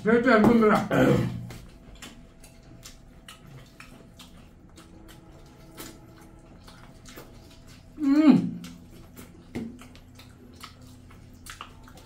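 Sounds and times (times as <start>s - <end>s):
wet chewing and lip smacks: 0.6s - 12.0s.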